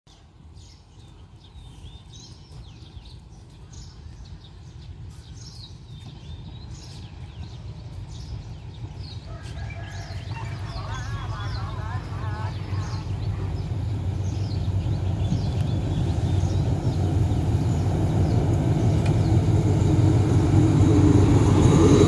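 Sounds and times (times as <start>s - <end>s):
birds chirping: 0.1s - 20.8s.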